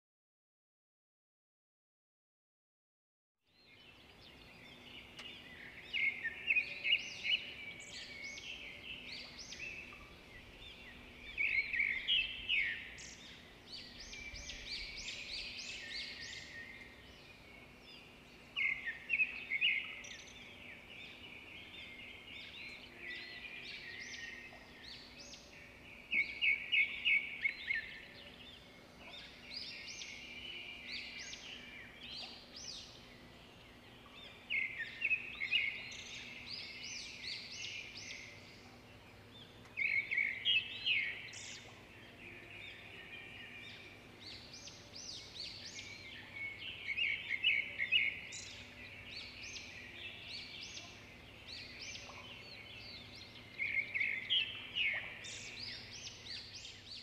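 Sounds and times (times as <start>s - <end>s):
songbirds chirping: 3.4s - 57.0s.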